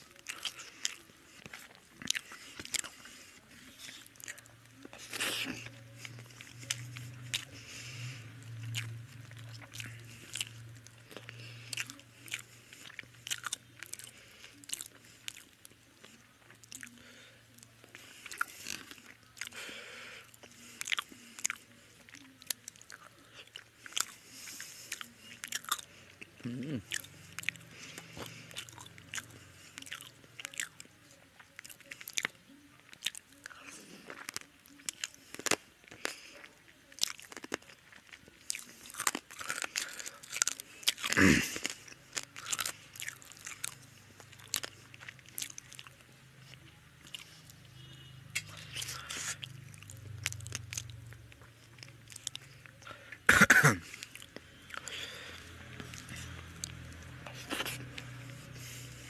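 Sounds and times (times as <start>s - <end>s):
man chewing and lip-smacking: 0.0s - 53.2s, 53.8s - 59.0s.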